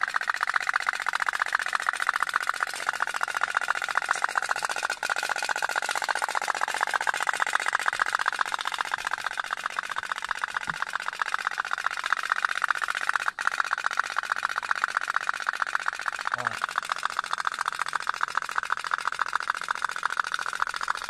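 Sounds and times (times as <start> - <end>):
toy steam boat putt-putting: 0.0 - 21.0.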